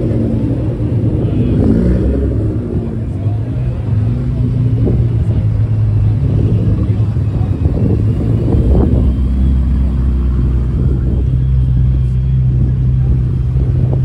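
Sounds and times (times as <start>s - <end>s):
car engines idling: 0.0s - 14.0s
faint voices: 0.0s - 14.0s.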